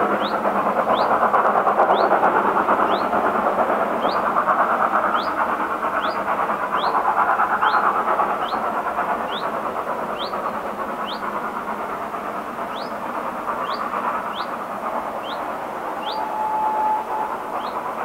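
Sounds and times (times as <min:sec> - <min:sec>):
steam locomotive exhaust beats: 0:00.0 - 0:18.0.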